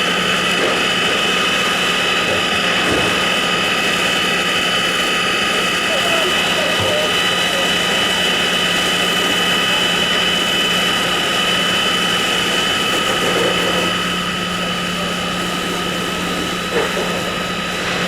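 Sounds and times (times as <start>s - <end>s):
machine drone with whine: 0.0s - 18.0s.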